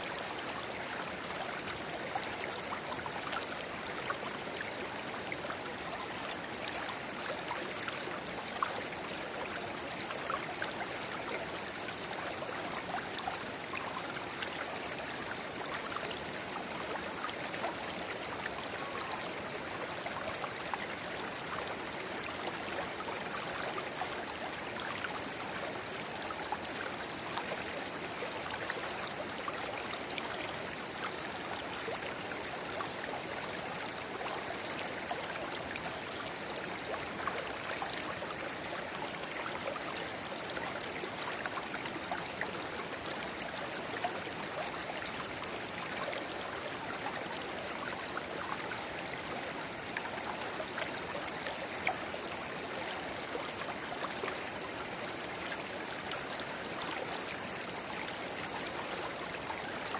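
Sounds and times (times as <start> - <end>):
river babbling: 0.1 - 59.9.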